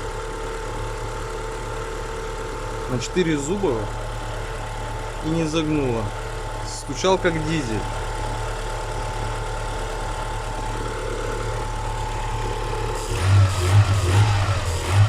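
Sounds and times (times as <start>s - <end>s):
low engine pulses: 0.0s - 15.0s
petrol engine idling: 0.0s - 15.0s.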